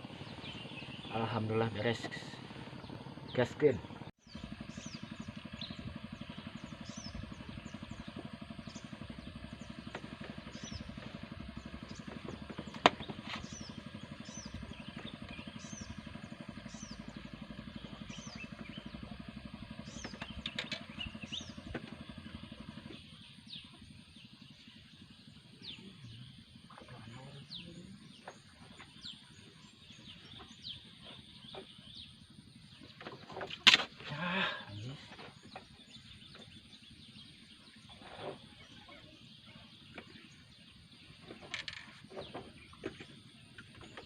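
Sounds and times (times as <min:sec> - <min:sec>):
small engine running: 0:00.0 - 0:44.0.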